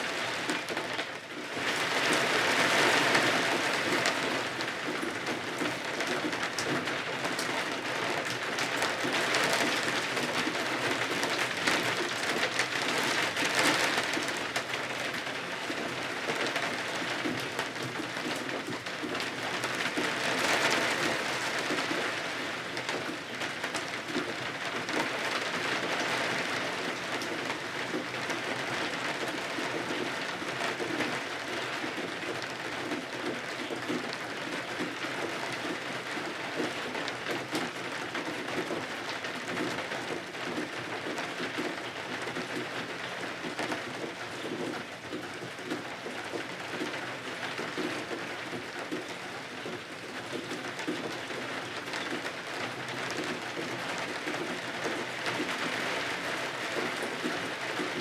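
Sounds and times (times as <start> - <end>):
rain on windows and roof: 0.0 - 58.0.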